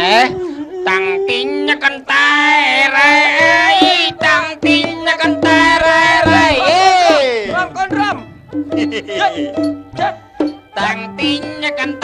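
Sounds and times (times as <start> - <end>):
music: 0.0 - 12.0
person singing: 0.0 - 12.0.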